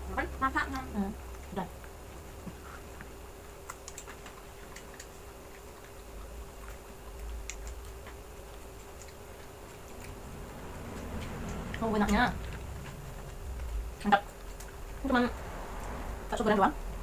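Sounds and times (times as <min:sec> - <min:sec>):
faint steady hum: 0:00.0 - 0:17.0
light clicks of eating: 0:00.6 - 0:16.0.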